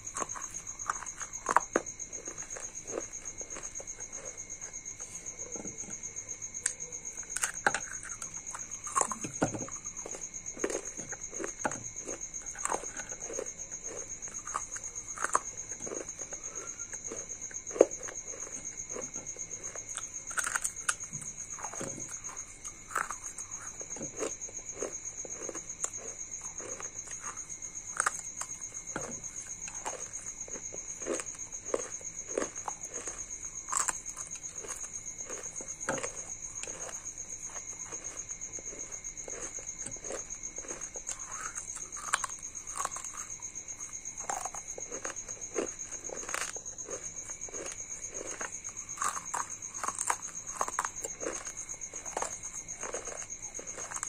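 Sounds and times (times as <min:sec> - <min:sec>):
mouth crunching clay: 0:06.6 - 0:54.0.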